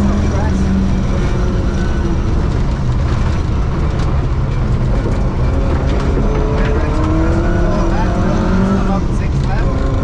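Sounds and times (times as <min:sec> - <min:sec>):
rally car engine running hard: 0:00.0 - 0:10.0
road noise on gravel: 0:00.0 - 0:10.0.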